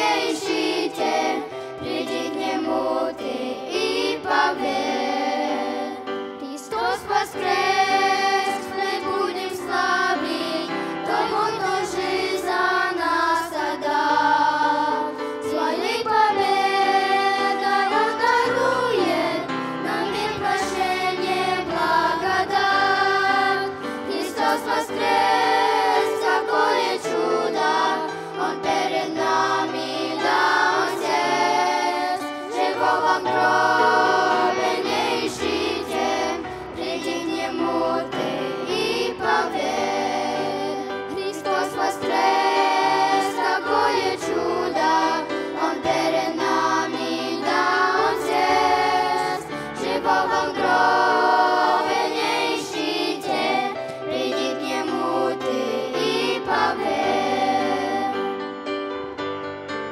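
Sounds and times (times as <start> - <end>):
children's choir singing: 0.0 - 58.8
instrumental accompaniment: 0.0 - 59.9.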